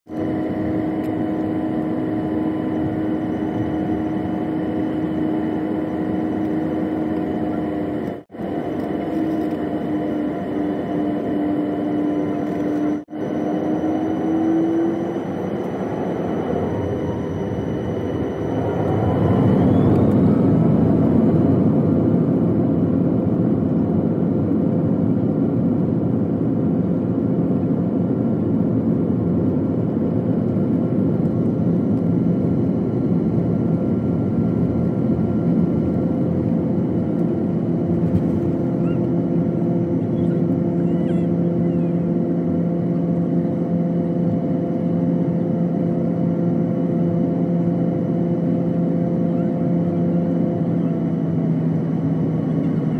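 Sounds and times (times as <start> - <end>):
jet engines roaring: 0.2 - 52.9.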